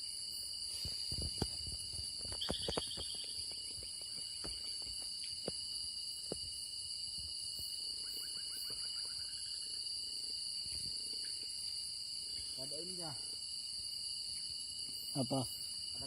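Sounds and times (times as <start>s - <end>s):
night insect chorus: 0.0s - 16.0s.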